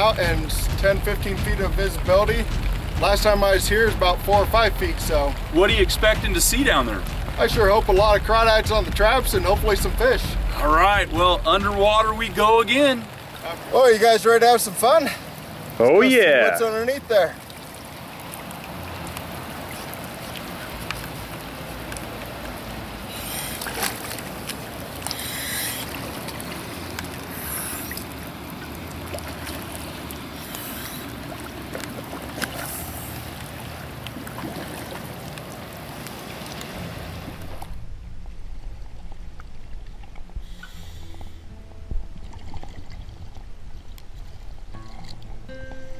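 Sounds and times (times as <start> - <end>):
water lapping: 0.0 - 45.3
rain hissing on river: 0.0 - 45.4
water splashes: 0.0 - 45.5.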